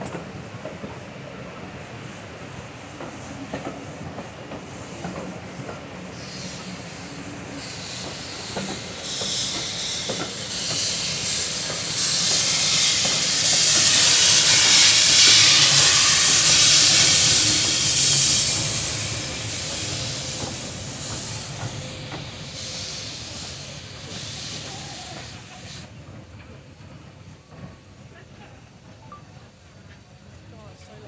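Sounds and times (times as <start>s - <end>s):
locomotive steam hissing: 0.0s - 26.5s.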